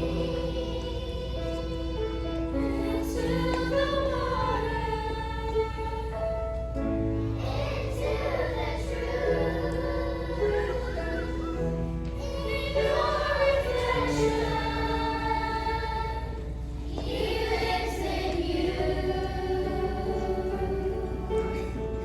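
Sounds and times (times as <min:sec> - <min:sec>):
children's choir singing: 0:00.0 - 0:22.0.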